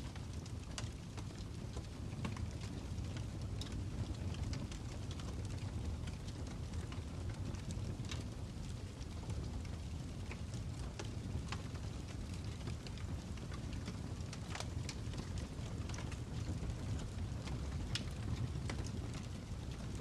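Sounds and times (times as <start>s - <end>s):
fire low rumble: 0.0s - 20.0s
fire popping and snapping: 0.0s - 20.0s.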